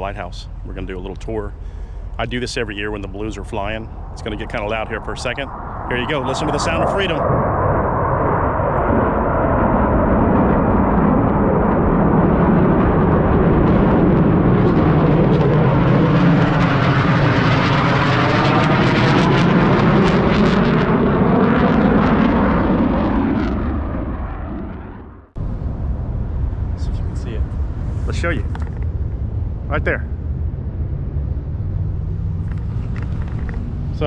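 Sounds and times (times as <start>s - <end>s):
jets flying over: 0.0s - 34.0s.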